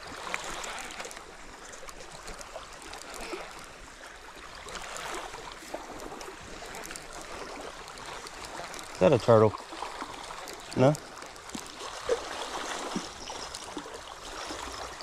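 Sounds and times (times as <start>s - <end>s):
water lapping and trickling: 0.0s - 15.0s.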